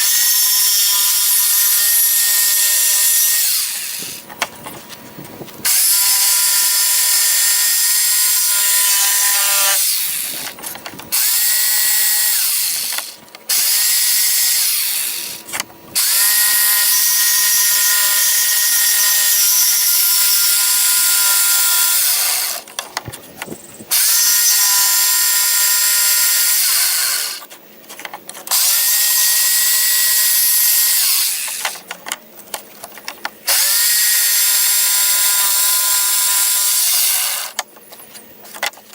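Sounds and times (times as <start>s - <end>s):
scroll saw cutting wood: 0.0s - 4.3s, 5.6s - 22.7s, 23.9s - 27.5s, 28.4s - 31.9s, 33.5s - 37.6s.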